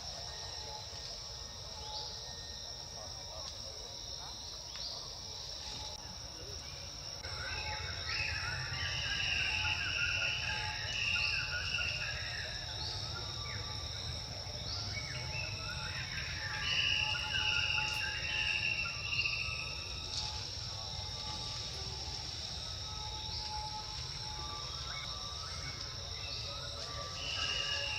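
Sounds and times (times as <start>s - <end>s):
high insect trill: 0.0s - 27.9s.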